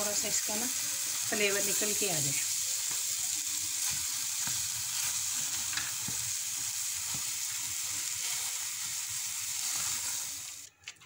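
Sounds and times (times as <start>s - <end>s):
bean mixture sizzling in pan: 0.0s - 10.7s.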